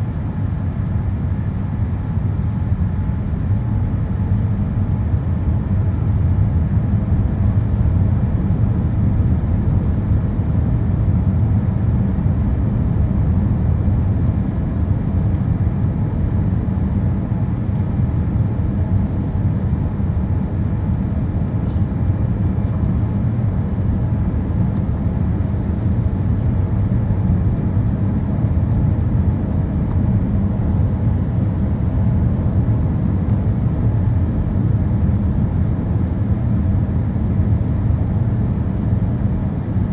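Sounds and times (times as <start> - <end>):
aircraft cabin engine noise: 0.0 - 39.9.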